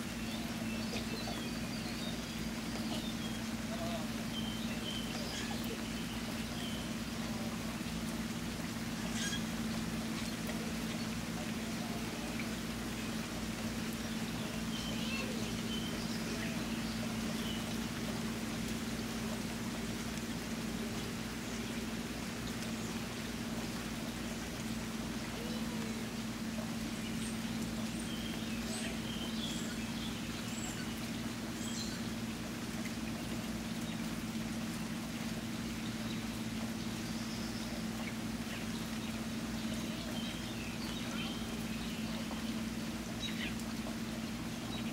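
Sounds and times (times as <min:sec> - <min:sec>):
constant low hum: 0:00.0 - 0:44.9
steady rainfall patter: 0:00.0 - 0:44.9.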